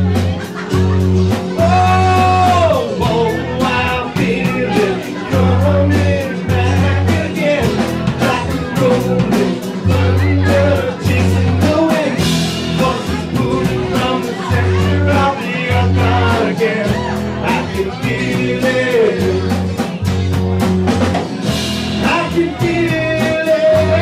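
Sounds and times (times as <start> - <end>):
person singing: 0.0 - 20.0, 21.9 - 24.0
bass notes: 0.0 - 24.0
drums beat: 0.0 - 24.0
electric guitar: 0.0 - 24.0.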